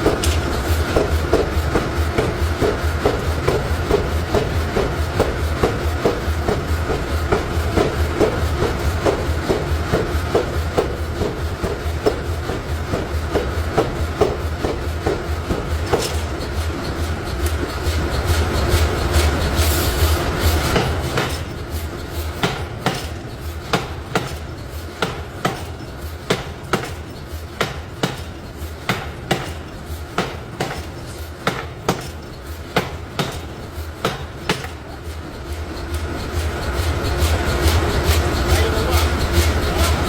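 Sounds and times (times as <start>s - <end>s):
hammer striking metal: 0.0s - 19.4s, 20.6s - 35.2s.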